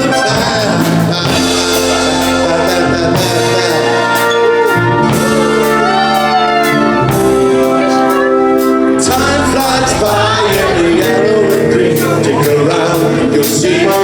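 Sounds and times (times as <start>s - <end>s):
drum beat: 0.0s - 14.0s
live pop-rock band playing: 0.0s - 14.0s
gliding melodic line: 1.4s - 14.0s.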